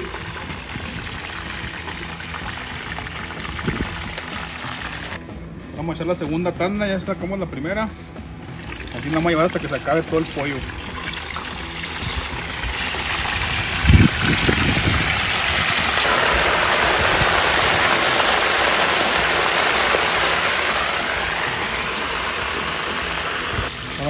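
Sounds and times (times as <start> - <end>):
chicken sizzling in hot oil: 0.0 - 5.2, 8.6 - 24.0.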